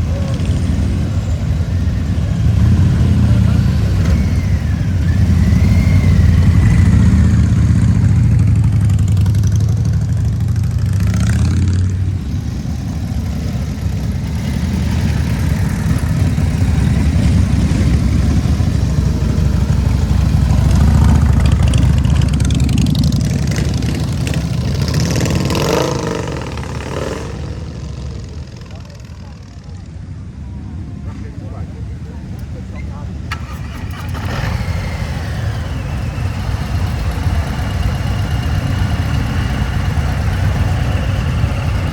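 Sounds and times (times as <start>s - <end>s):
motorcycle engine idling: 0.0s - 30.2s, 31.4s - 41.9s.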